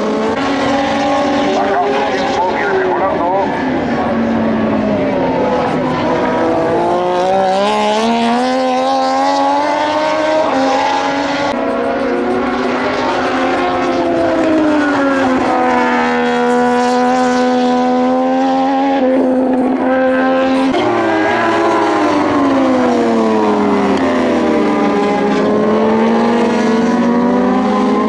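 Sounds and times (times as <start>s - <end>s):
racing motorcycles at high revs: 4.0s - 28.0s.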